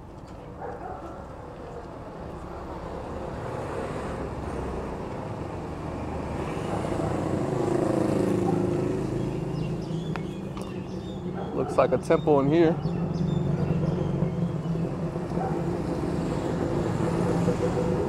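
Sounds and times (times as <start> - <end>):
vehicle engine passing by: 2.3 - 18.0.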